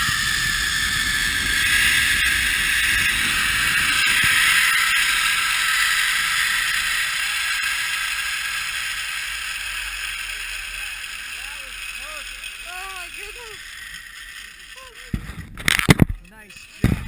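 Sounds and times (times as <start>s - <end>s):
zipline pulleys whirring: 0.0s - 17.0s.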